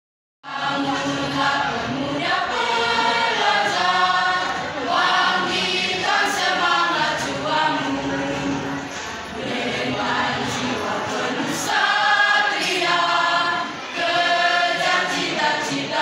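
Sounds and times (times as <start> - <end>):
choir singing a march: 0.4 - 16.0.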